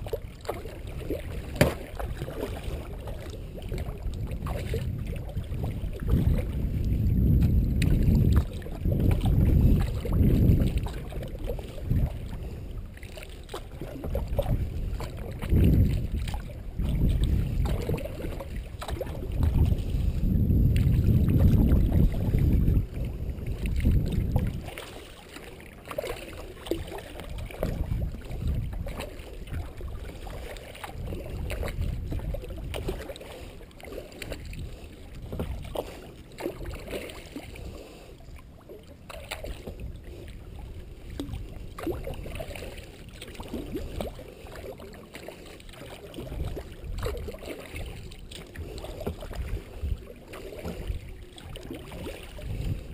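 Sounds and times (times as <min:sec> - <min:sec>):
kayak paddle strokes: 0:00.0 - 0:22.3, 0:23.0 - 0:52.9
light water splashes: 0:00.0 - 0:52.9
water moving against hull: 0:00.0 - 0:52.9.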